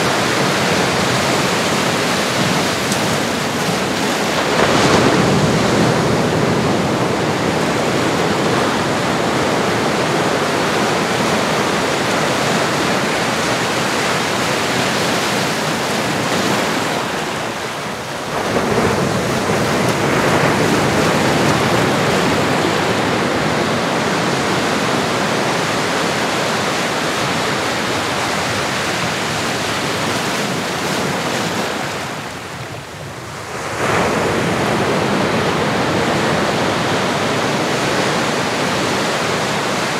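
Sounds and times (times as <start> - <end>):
waves washing onto shore: 0.0 - 39.9.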